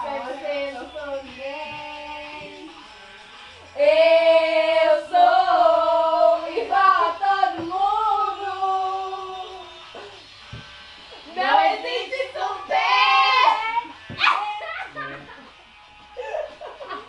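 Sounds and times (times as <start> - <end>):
girls singing without accompaniment: 0.0 - 15.3.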